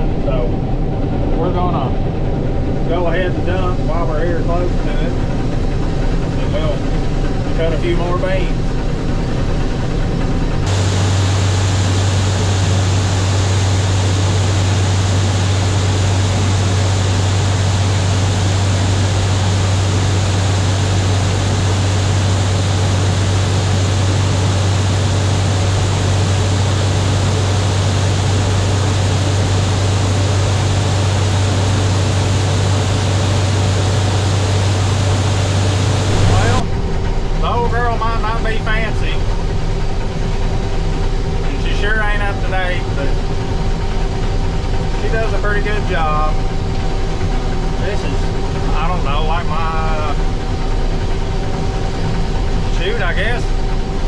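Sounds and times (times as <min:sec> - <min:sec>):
combine engine hum: 0:00.0 - 0:54.0.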